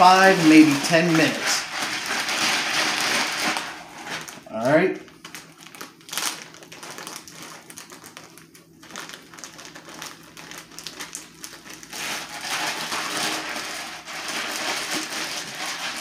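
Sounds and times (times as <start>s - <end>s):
ice cubes rattling in a bag: 0.0s - 4.4s, 5.2s - 16.0s
plastic bag crinkling: 0.0s - 16.0s.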